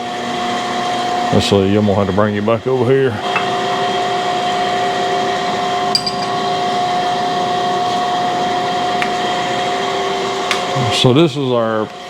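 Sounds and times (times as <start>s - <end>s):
grinding machine humming: 0.0s - 12.0s.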